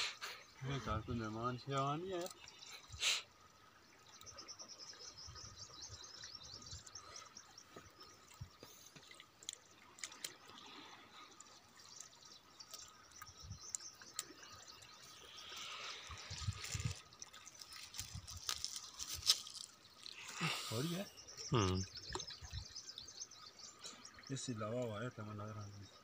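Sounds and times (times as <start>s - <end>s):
soft water sounds: 0.0s - 26.0s.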